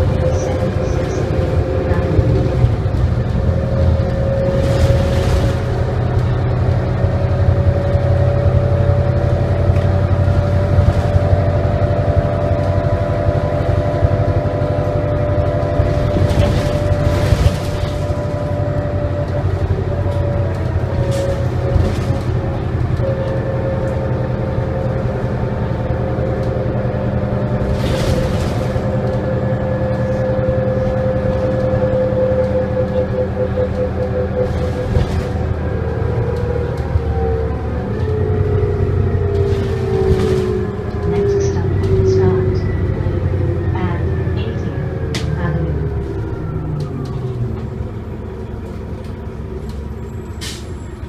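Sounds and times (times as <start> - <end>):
bus engine drone with whine: 0.0 - 51.0.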